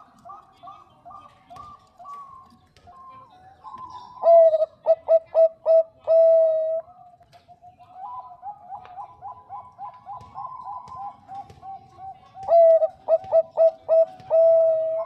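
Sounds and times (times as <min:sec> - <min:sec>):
dove cooing: 0:00.0 - 0:07.1, 0:07.7 - 0:15.0.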